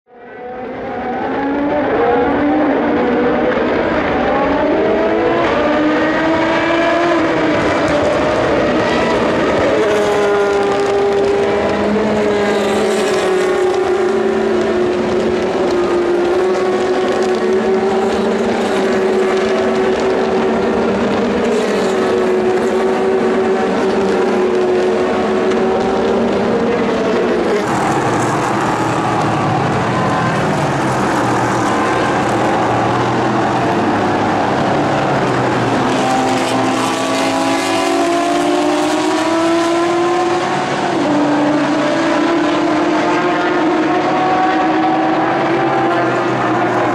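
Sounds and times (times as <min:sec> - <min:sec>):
race car engines at speed: 0:00.0 - 0:46.9.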